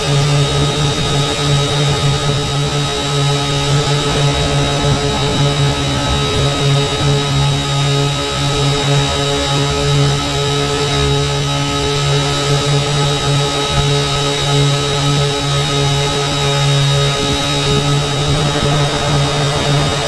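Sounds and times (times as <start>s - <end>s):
drone propellers humming: 0.0s - 20.0s
wind buffeting microphone: 0.0s - 20.0s.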